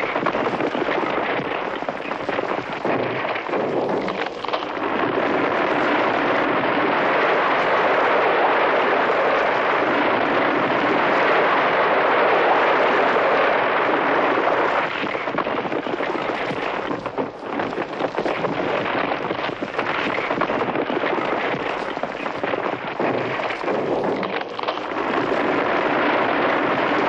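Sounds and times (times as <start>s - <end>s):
avalanche rushing and crackling: 0.0s - 27.0s.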